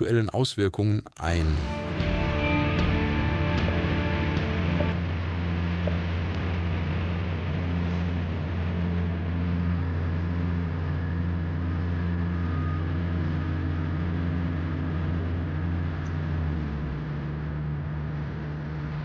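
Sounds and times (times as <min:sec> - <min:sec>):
large engine droning: 0:01.2 - 0:19.0.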